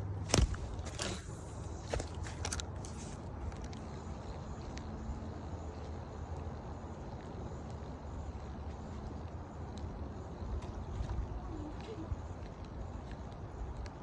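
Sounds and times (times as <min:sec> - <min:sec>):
faint hum: 0:00.0 - 0:14.0
low rumbling background noise: 0:00.0 - 0:14.0.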